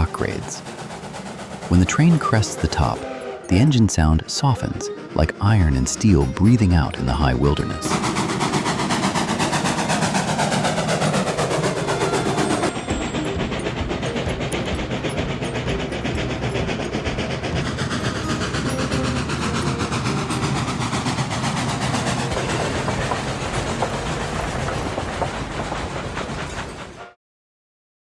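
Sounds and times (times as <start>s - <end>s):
steam train running: 0.0s - 27.2s.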